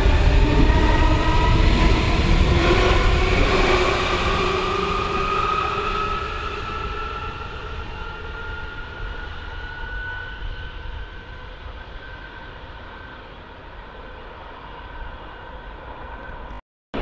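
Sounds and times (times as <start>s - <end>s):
train moving away: 0.0s - 16.5s
rising whine: 0.0s - 17.0s.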